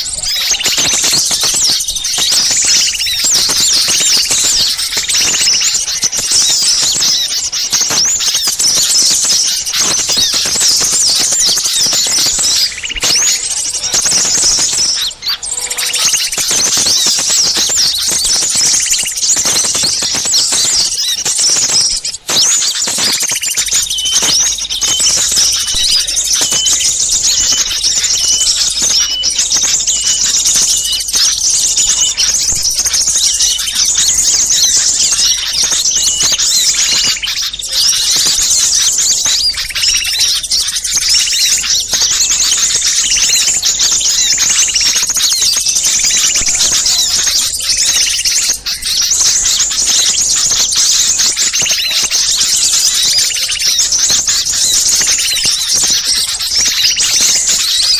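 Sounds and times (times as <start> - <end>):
chorus of small birds chirping: 0.0 - 57.9.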